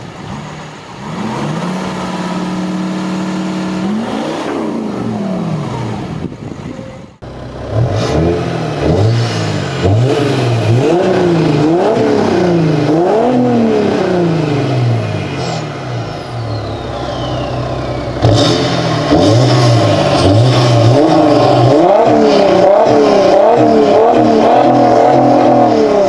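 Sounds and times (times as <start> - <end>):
diesel engine revving: 0.0 - 6.4, 7.2 - 26.0.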